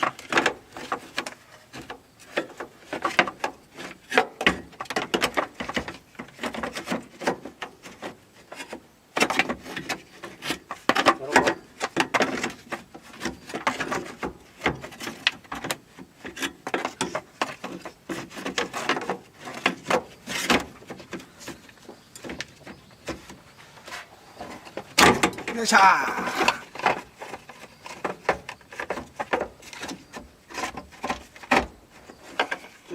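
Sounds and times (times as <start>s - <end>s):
hard parts knocking and clunking: 0.0s - 32.8s
scraping and tapping: 0.0s - 32.9s.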